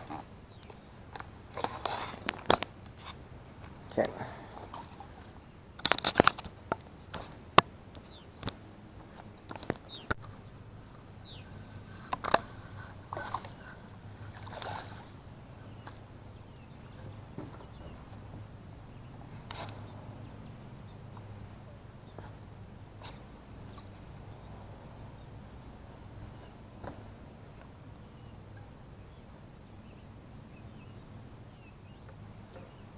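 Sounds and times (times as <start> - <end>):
low steady hum: 0.0 - 32.9.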